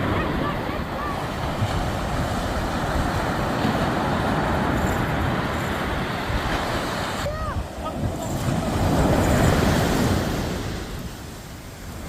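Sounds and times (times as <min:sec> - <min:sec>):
sea surf breaking: 0:00.0 - 0:12.0
wind buffeting microphone: 0:00.0 - 0:12.0.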